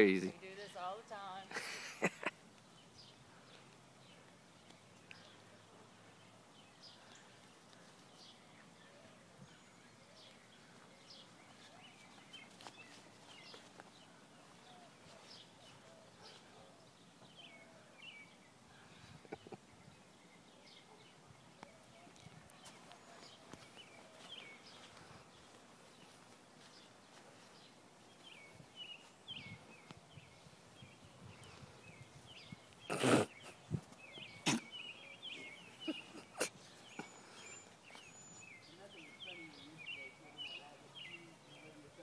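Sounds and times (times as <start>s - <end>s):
distant bird chirps: 0.0s - 42.0s.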